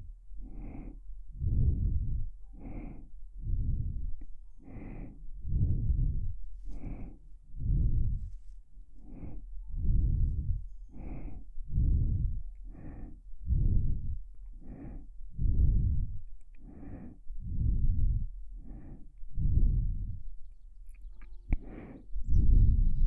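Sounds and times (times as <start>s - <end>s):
slow breathing close up: 0.0s - 23.0s.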